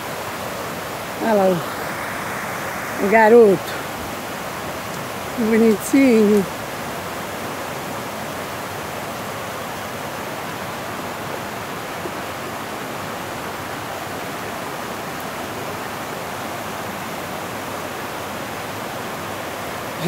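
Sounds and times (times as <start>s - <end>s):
water rushing over rock: 0.0s - 20.0s.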